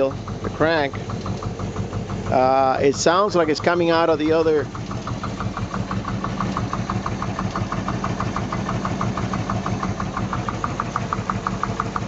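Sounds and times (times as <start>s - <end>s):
boat engine idling: 0.0s - 12.0s
sharp engine valve ticking: 0.0s - 12.0s.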